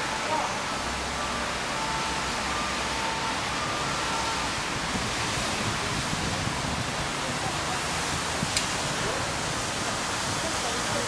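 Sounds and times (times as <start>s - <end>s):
water jet gushing: 0.0s - 11.0s.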